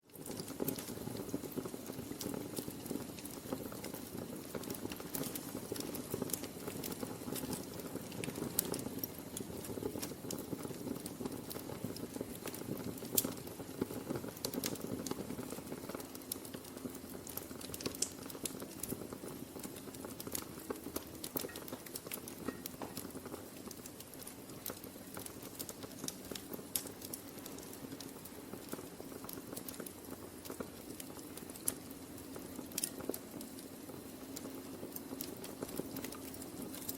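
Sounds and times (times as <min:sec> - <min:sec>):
fire crackling and popping: 0:00.0 - 0:36.9
fire hissing: 0:00.2 - 0:36.9.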